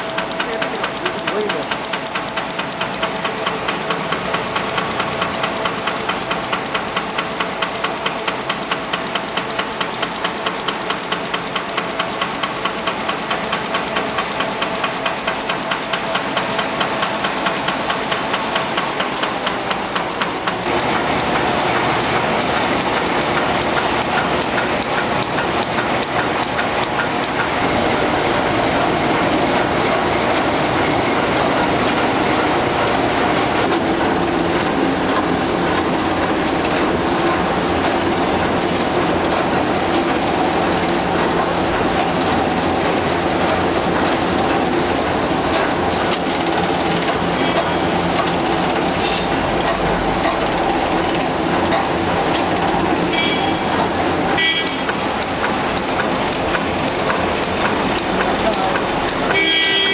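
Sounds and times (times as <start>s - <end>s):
machine hum: 0.0s - 59.9s
printing machine clattering: 0.0s - 59.9s.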